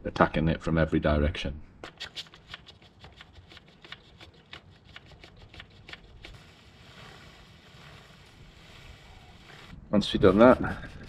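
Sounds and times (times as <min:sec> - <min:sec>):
brush scrubbing a chain: 0:02.0 - 0:11.0.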